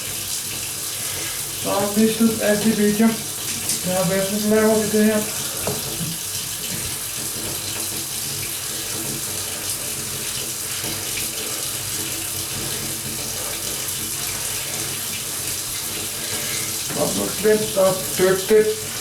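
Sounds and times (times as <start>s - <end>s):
kitchen tap running: 0.0s - 19.0s.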